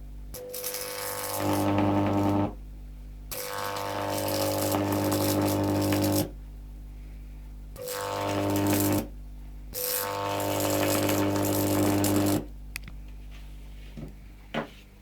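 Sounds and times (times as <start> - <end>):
loud mains buzz with hiss: 0.0 - 12.7.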